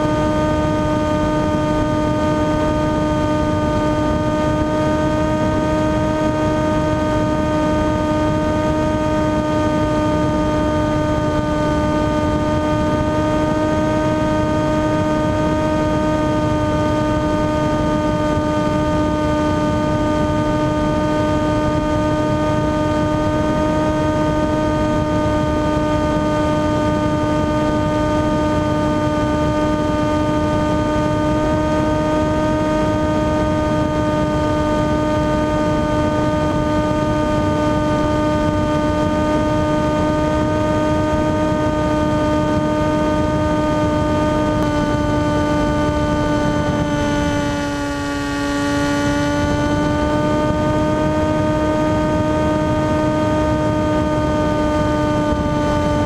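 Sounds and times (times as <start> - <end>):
model aircraft motor buzzing: 0.0 - 56.0.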